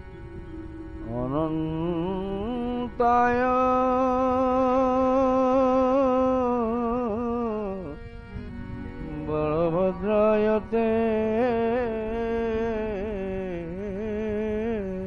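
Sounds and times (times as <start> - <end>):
man singing a hymn: 1.0 - 8.2, 9.0 - 15.0.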